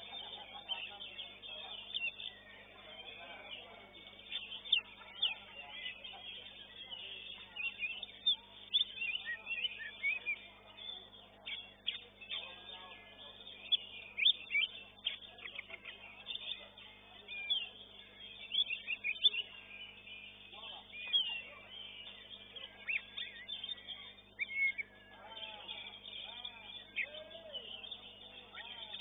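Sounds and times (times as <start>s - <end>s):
bird singing chirps and whistles: 0.0s - 29.0s.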